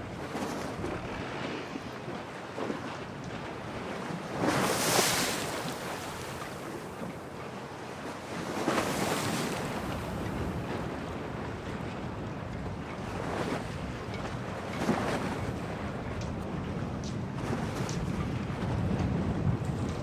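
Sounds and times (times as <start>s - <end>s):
steady wind: 0.0s - 20.0s
waves breaking against harbour: 0.0s - 20.0s.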